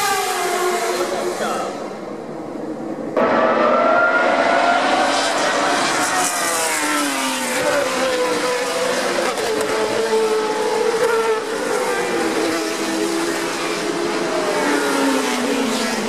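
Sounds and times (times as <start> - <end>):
racing car engines passing: 0.0 - 16.0.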